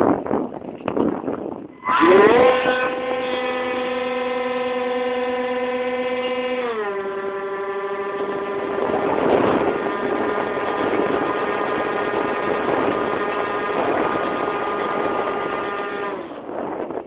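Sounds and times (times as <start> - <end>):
model plane motors humming: 1.8 - 17.0.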